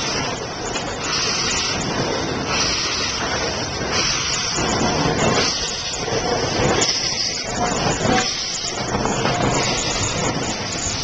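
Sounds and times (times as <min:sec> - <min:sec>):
steam locomotive hissing steam: 0:00.0 - 0:11.0.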